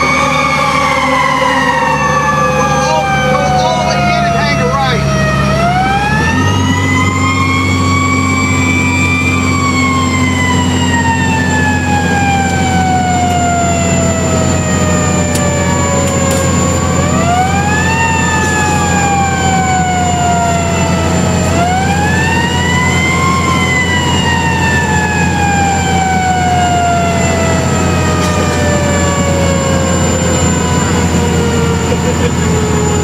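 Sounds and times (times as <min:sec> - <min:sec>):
constant high whine: 0:00.0 - 0:33.0
fire truck siren winding: 0:00.0 - 0:33.0
truck engine drone: 0:00.0 - 0:33.0.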